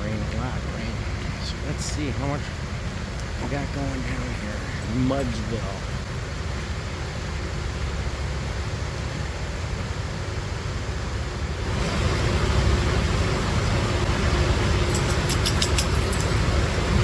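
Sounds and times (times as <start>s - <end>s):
construction machinery engine running: 0.0s - 17.0s
rain noise: 0.0s - 17.0s.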